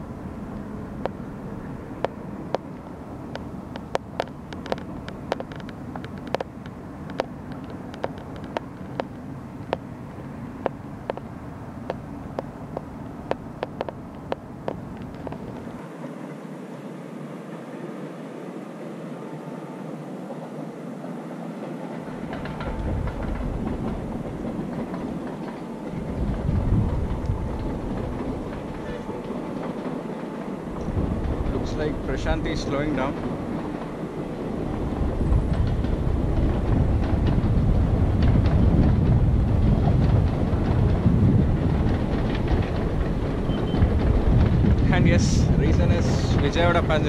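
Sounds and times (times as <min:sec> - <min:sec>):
wheels clattering on rail: 0:00.0 - 0:16.4, 0:21.1 - 0:47.0
distant train rumbling: 0:00.0 - 0:47.0.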